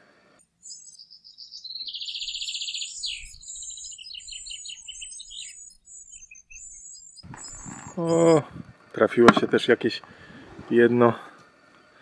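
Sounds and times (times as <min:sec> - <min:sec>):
songbirds singing: 0:00.4 - 0:11.0.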